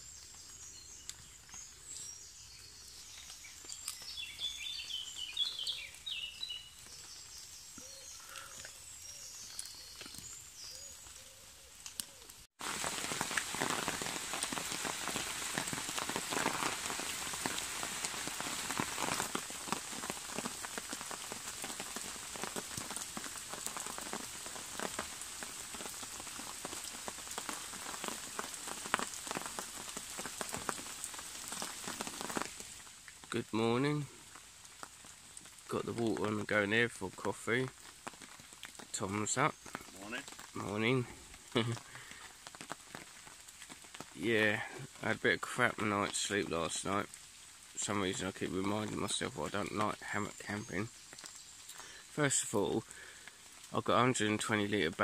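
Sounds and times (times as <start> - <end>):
rain patter in woodland: 0.0 - 55.0.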